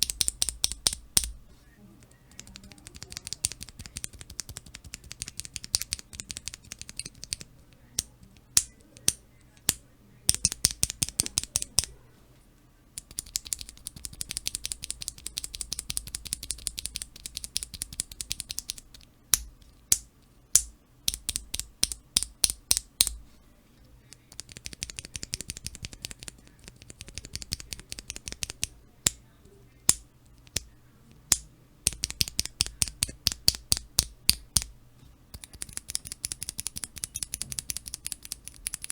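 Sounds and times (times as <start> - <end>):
keyboard switches clicking: 0.0 - 1.4, 2.3 - 12.0, 13.0 - 23.2, 24.1 - 30.7, 31.3 - 34.7, 35.3 - 38.9.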